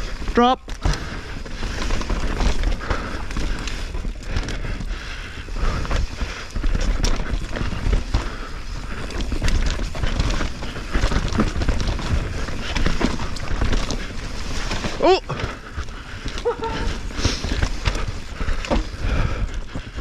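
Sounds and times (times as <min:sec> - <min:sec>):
mountain bike rattling on trail: 0:00.0 - 0:20.0.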